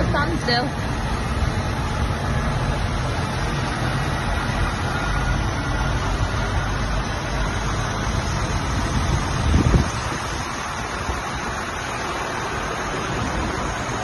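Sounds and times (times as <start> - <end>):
diesel tractor engines running: 0.0 - 14.0.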